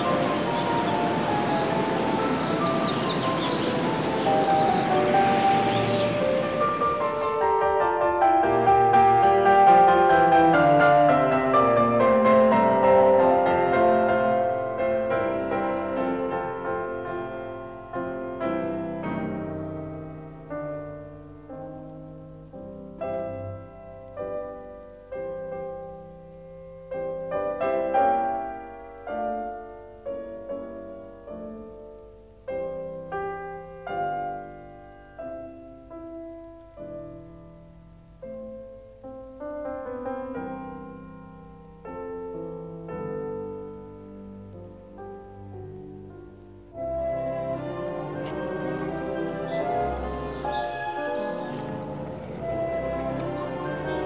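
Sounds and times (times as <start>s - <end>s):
slow piano piece: 0.0s - 54.0s.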